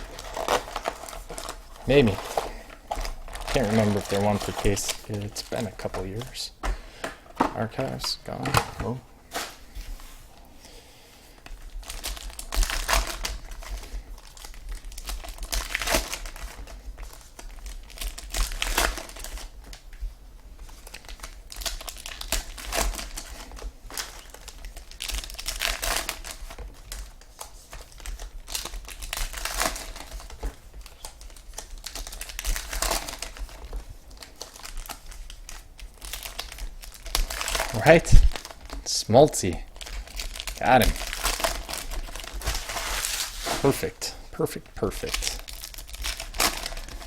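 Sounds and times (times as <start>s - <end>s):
foil wrappers crinkling and tearing: 0.0s - 9.7s, 11.3s - 20.0s, 20.6s - 47.0s.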